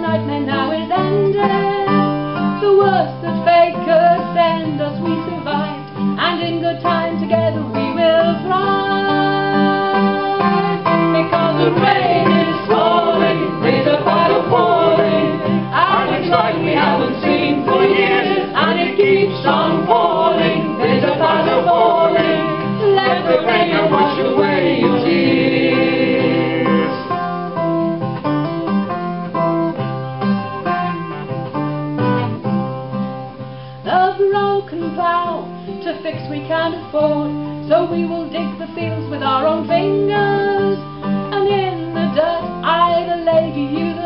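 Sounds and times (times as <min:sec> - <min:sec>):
person singing folk song: 0:00.0 - 0:27.4, 0:33.8 - 0:44.0
plucked acoustic guitar: 0:00.0 - 0:44.0.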